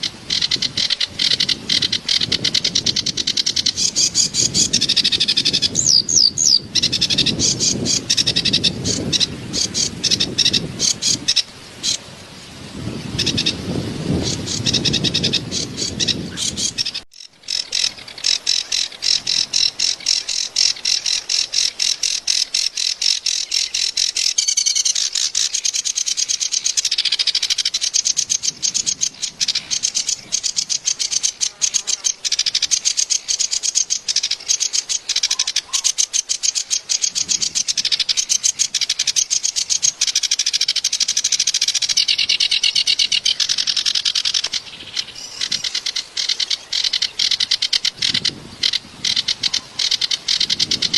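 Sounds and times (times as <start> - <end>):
bird chattering song: 0.0 - 12.0, 13.0 - 50.9.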